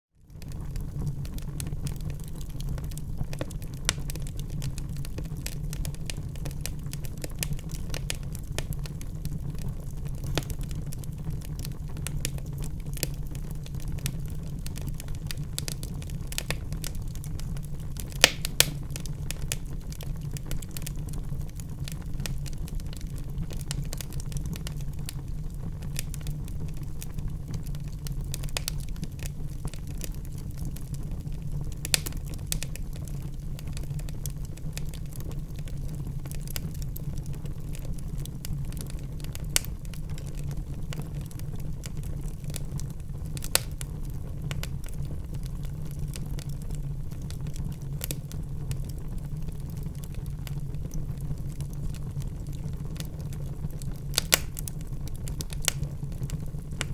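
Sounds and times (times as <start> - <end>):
wood fire crackling and popping: 0.2 - 56.9.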